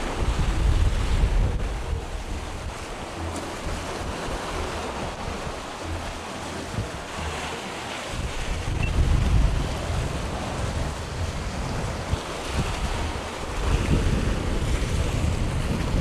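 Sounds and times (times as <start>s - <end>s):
sea surf washing on rocks: 0.0s - 16.0s
wind buffeting microphone: 0.0s - 16.0s.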